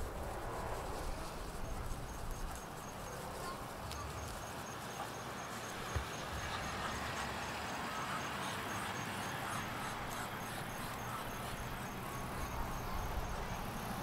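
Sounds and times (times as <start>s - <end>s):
distant road traffic hiss: 0.0s - 14.0s
insect chirping: 0.0s - 14.0s.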